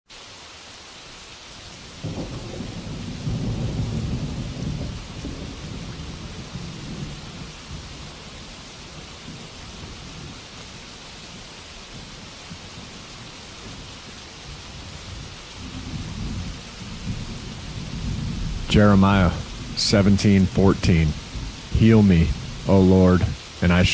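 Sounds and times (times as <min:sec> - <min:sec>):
steady rainfall: 0:00.1 - 0:23.9
thunder rumbling: 0:02.0 - 0:10.5, 0:12.0 - 0:23.9.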